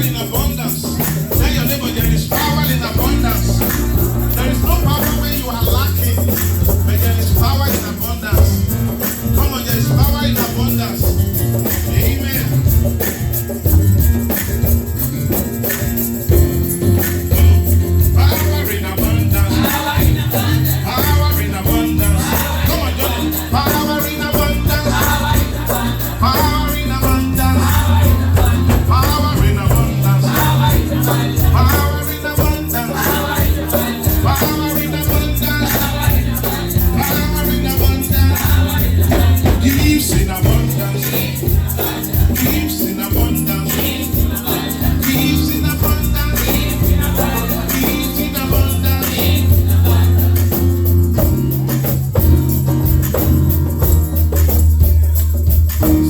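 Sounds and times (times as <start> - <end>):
church band music: 0.0 - 56.0
shaker rhythm: 0.0 - 56.0
voices singing: 0.0 - 56.0.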